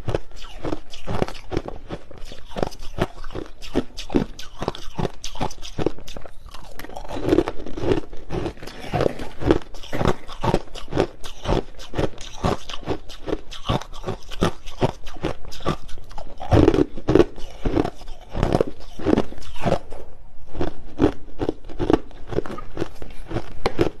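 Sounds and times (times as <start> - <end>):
crushed ice being chewed: 0.0 - 24.0.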